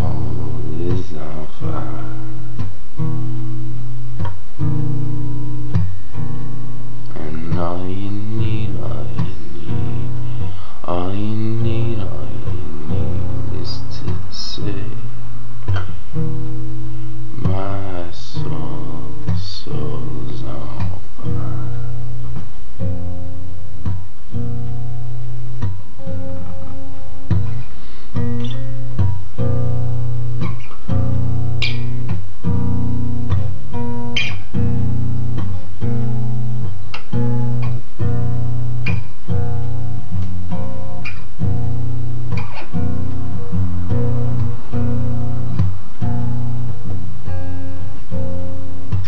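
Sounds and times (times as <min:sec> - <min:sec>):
acoustic guitar strumming: 0:00.0 - 0:49.0.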